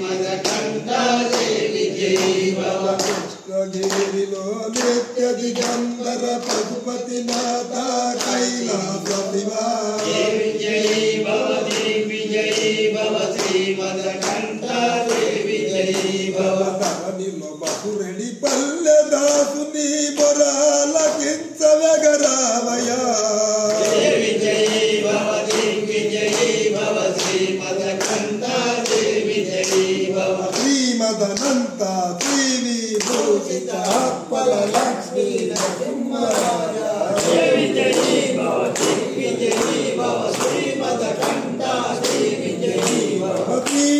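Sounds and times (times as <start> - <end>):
men chanting together: 0.0 - 43.9.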